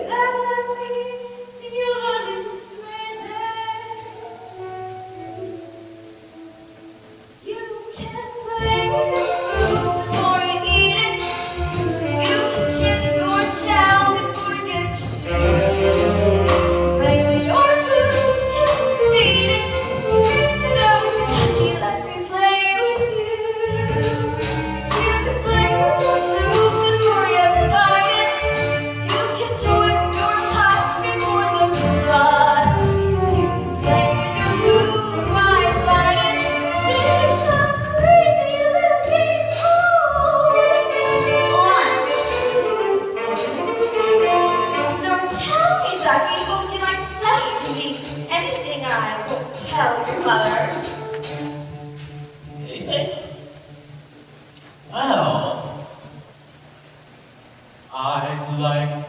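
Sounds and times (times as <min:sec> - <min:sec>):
instrumental accompaniment: 0:00.0 - 0:59.0.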